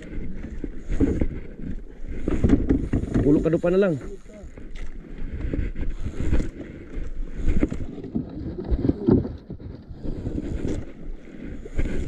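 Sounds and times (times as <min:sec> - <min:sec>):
water slapping against hull: 0:00.0 - 0:03.5, 0:04.2 - 0:12.0
wind buffeting microphone: 0:00.0 - 0:12.0.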